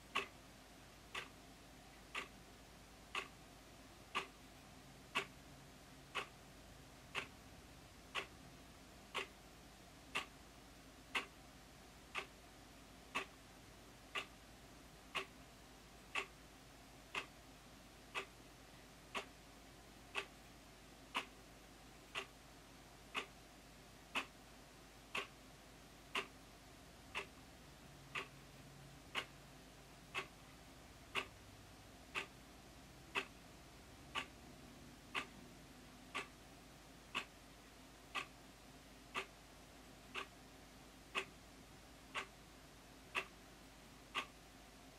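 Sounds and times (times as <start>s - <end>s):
wall clock ticking: 0.0s - 23.4s, 24.0s - 44.9s.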